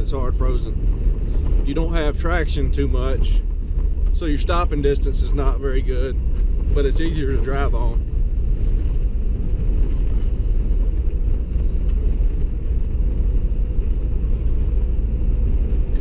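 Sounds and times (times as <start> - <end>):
vehicle driving over snow: 0.0 - 16.0.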